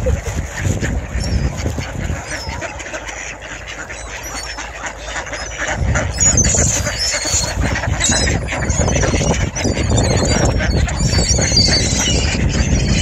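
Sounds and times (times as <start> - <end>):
ducks calling: 0.0 - 13.0
high squeaky calls: 1.1 - 13.0.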